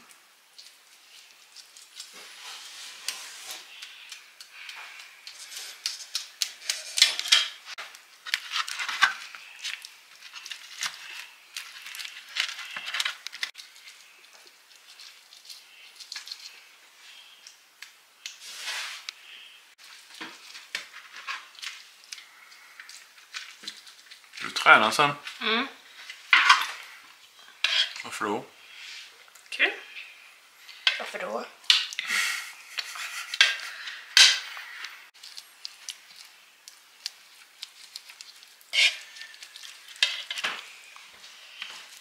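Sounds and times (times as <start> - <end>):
brush and utensils on roasting pan: 0.0 - 24.5, 25.9 - 28.0, 28.6 - 42.0.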